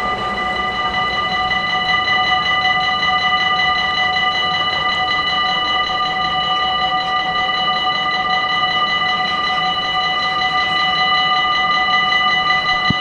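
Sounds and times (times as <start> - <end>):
level-crossing warning bells ringing: 0.0 - 13.0.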